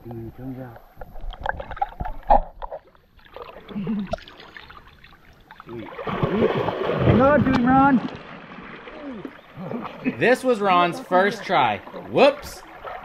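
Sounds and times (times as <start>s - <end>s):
water splashing and sloshing: 0.9s - 13.0s.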